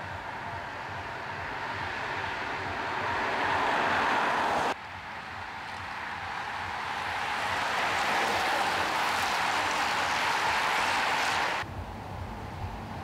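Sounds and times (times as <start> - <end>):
bicycle tyres rushing: 0.0 - 13.0.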